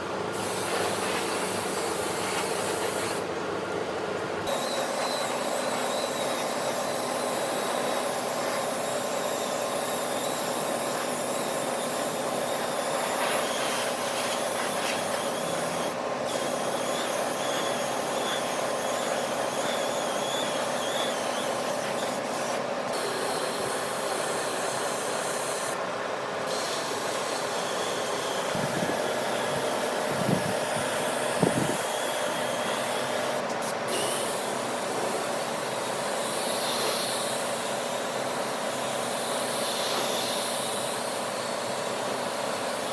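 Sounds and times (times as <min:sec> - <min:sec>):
wood lathe hissing: 0:04.5 - 0:25.8, 0:26.5 - 0:42.9.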